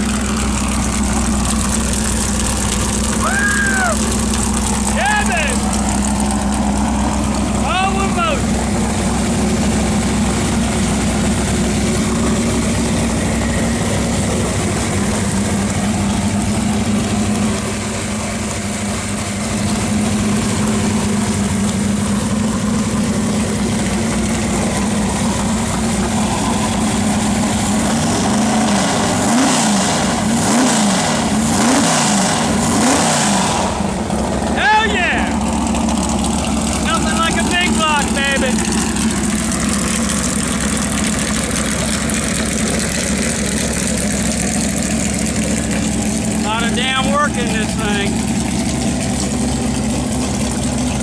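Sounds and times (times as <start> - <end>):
car engine idling: 0.0 - 51.0
engine revving with throttle blips: 0.0 - 51.0.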